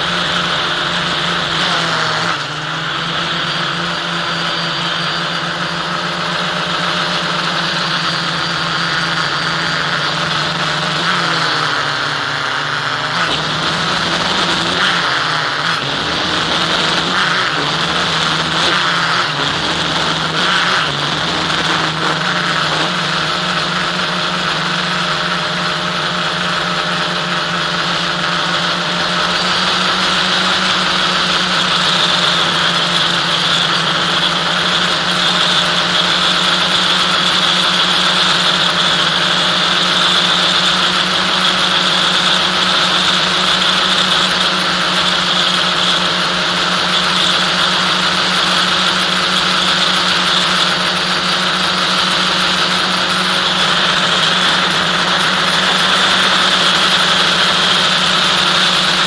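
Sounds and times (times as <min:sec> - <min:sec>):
electric motors and propellers: 0:00.0 - 0:59.0.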